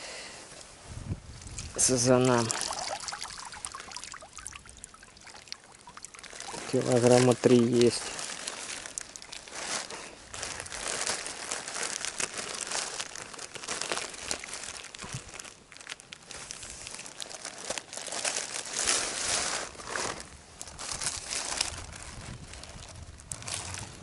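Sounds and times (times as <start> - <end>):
crinkling and rustling: 0.5 - 24.0.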